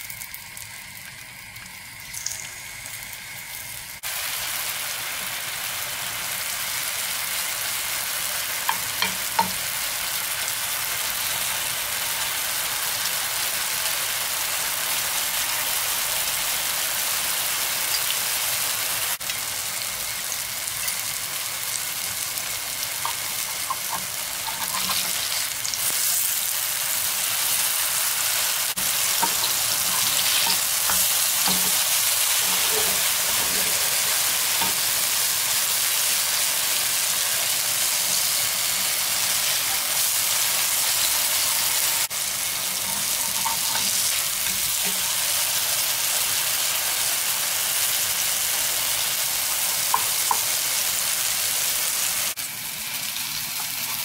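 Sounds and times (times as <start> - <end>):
fritters sizzling in hot oil: 0.0 - 54.0.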